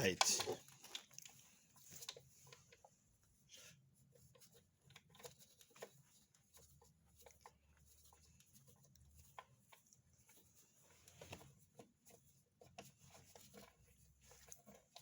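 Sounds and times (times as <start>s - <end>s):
light clicks and rubbing: 0.0s - 15.0s.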